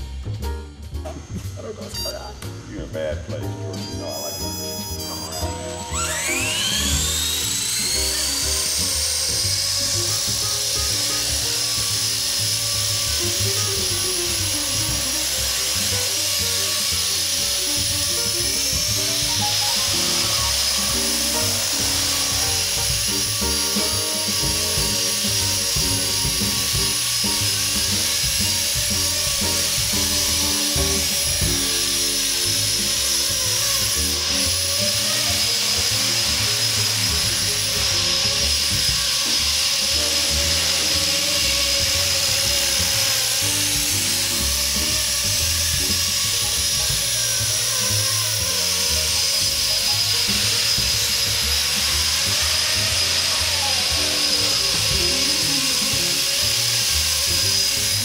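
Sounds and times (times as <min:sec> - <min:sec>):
background music: 0:00.0 - 0:58.0
rc helicopter motor whine: 0:03.7 - 0:58.0.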